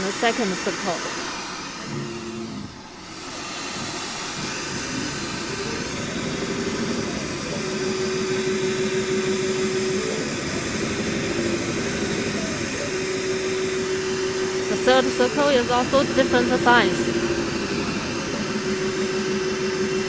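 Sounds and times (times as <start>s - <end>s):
motor whine: 0.0s - 20.0s.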